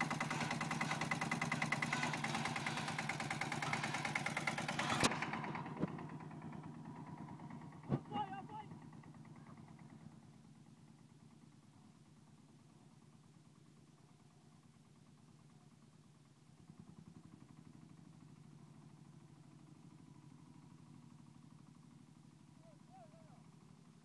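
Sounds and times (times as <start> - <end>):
tractor engine chugging: 0.0 - 24.0.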